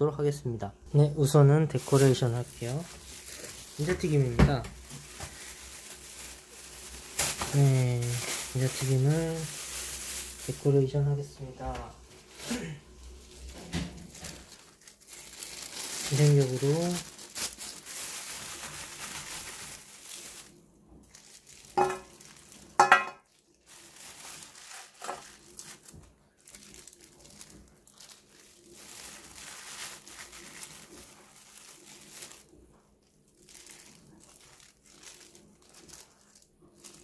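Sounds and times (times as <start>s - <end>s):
plastic bag and glove crinkling: 0.8s - 37.0s.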